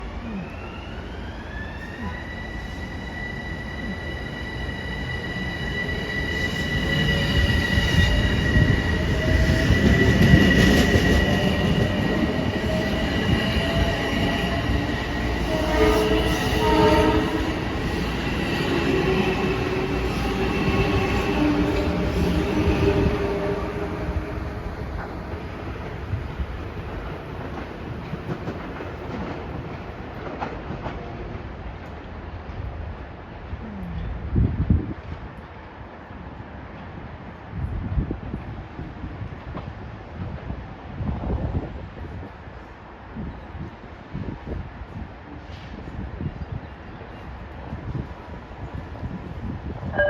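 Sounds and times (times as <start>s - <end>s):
train wheels rumbling on rail: 1.8s - 50.0s.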